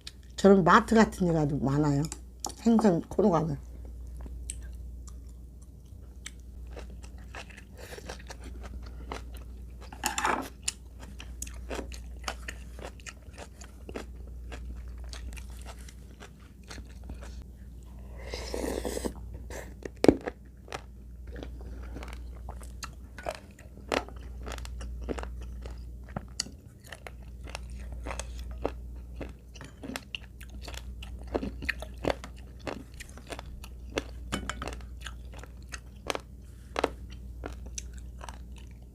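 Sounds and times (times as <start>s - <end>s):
chewing and crunching: 3.9s - 17.5s, 19.7s - 38.9s.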